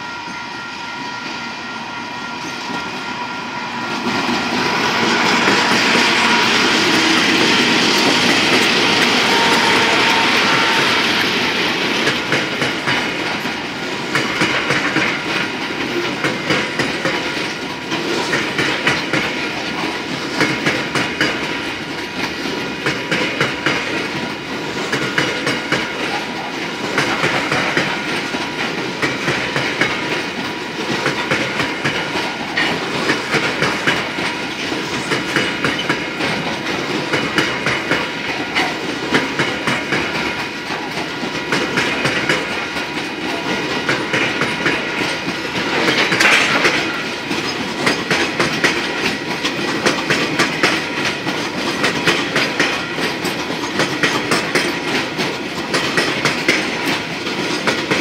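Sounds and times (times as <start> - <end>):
train wagons rolling over rail joints: 4.0 - 58.0.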